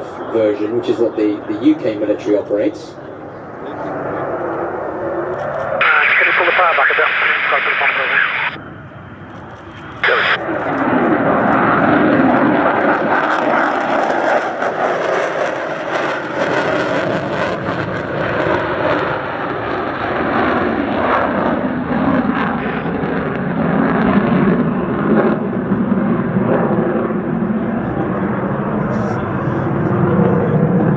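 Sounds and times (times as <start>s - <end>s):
jet engine roar: 0.0s - 30.9s.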